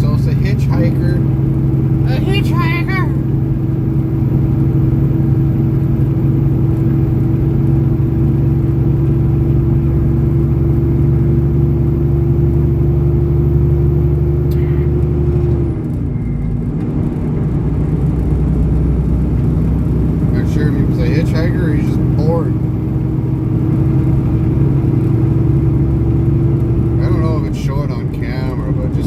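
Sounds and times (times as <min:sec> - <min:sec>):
truck engine and road drone: 0:00.0 - 0:29.0.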